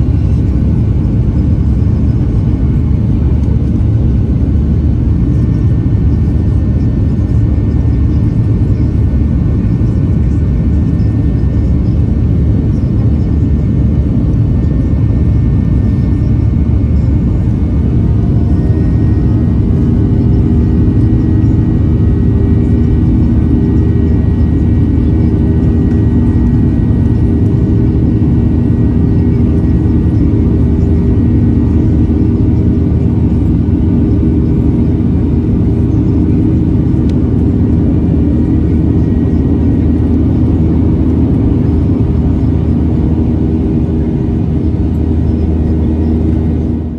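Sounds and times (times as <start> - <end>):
jet engines rumbling in cabin: 0.0 - 46.9.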